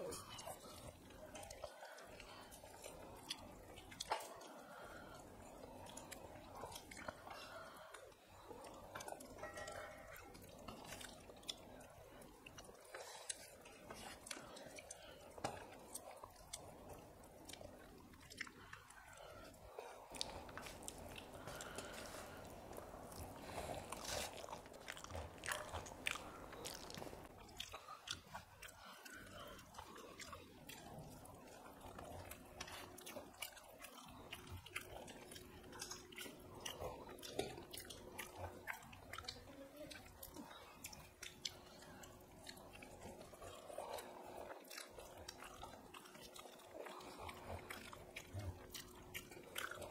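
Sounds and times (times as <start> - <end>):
chewing and mouth smacks: 0.0 - 49.9.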